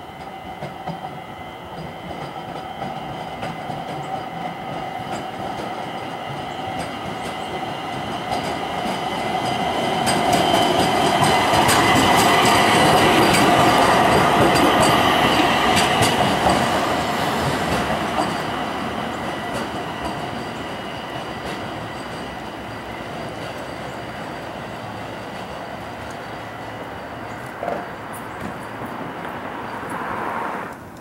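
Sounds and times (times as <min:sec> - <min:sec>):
wheels clacking over rail joints: 0:00.1 - 0:31.0.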